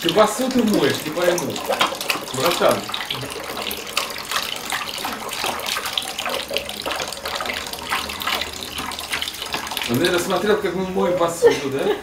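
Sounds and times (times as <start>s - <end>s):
tap water running into bowl: 0.0s - 12.0s.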